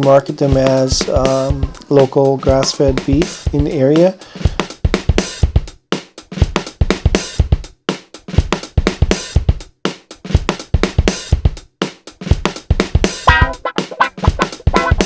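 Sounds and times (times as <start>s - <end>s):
music with drum kit beat: 0.0s - 15.0s.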